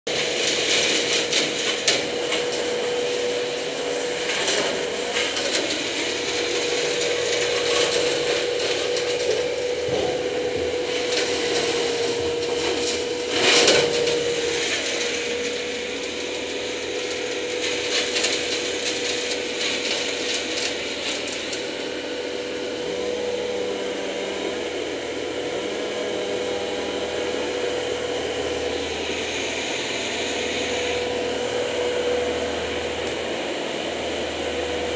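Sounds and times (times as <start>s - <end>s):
machine humming: 0.1s - 34.9s.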